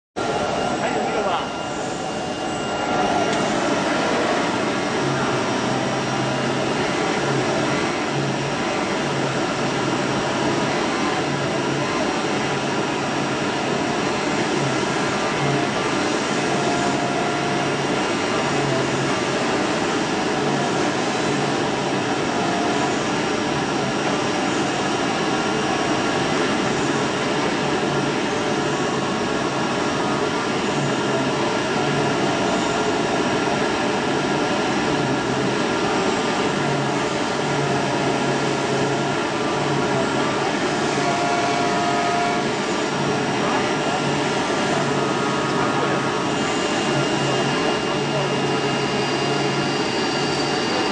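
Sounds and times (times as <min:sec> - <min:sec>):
low machine hum: 0:00.2 - 0:50.9.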